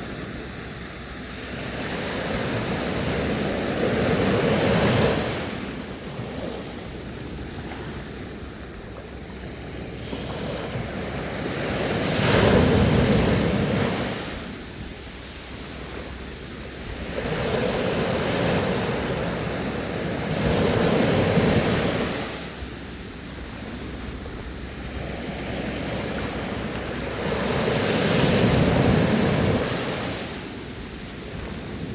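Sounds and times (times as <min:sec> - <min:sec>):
ocean waves breaking on shore: 0:00.0 - 0:31.9.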